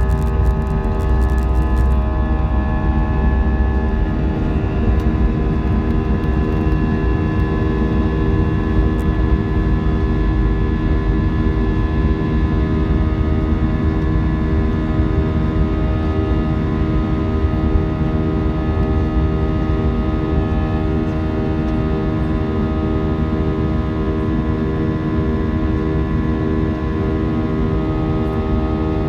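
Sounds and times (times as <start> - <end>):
jet engines rumbling and whining: 0.0 - 29.0.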